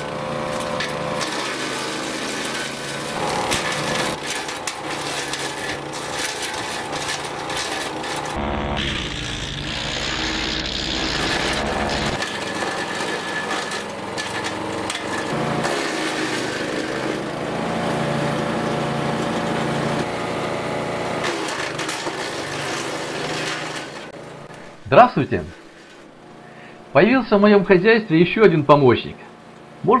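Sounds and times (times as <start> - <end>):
wood crackling in chipper: 0.0 - 26.4
petrol engine running: 0.0 - 26.6.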